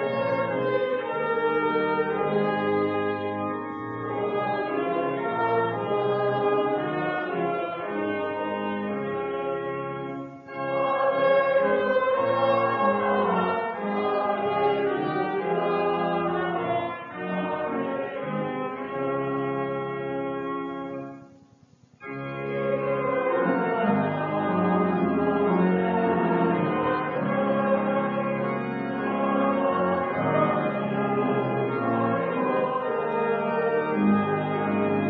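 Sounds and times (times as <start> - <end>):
organ playing sustained chords: 0.0 - 21.4, 22.0 - 35.0.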